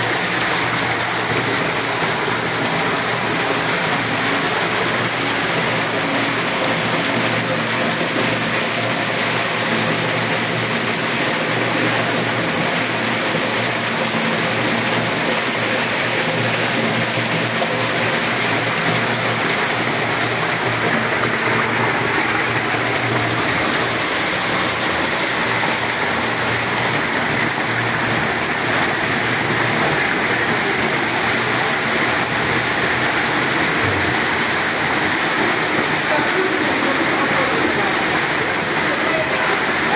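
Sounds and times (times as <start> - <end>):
water splashing down waterfall: 0.0 - 39.9.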